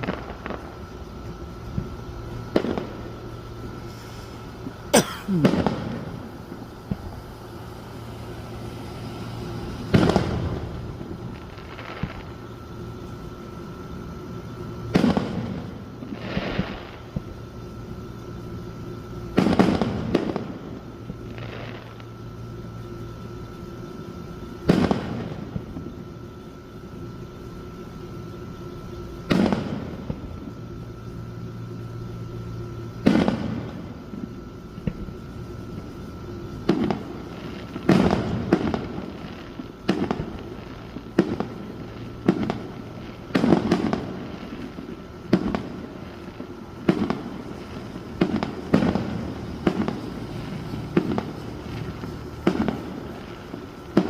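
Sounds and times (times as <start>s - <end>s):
fireworks bursting with booms: 0.0s - 54.0s.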